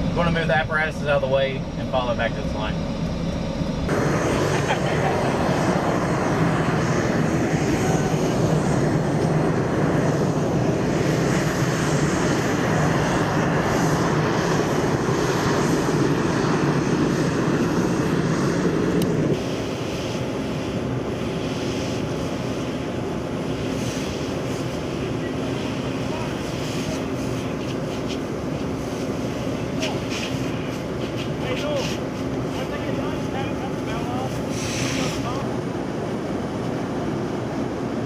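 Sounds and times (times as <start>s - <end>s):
aircraft engine running: 0.0s - 38.0s.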